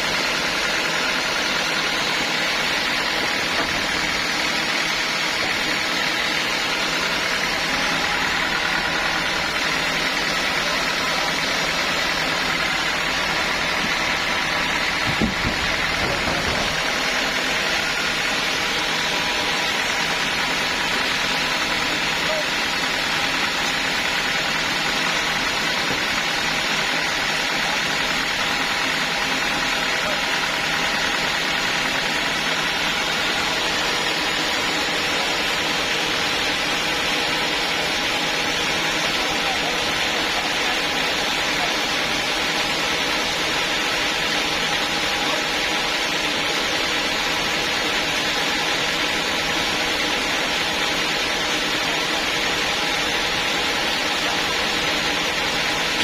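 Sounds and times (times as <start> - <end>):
log saw drone: 0.0 - 56.0.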